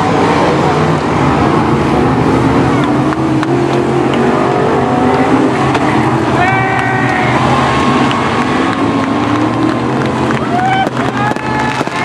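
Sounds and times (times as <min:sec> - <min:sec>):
race car engines running loudly: 0:00.0 - 0:12.0.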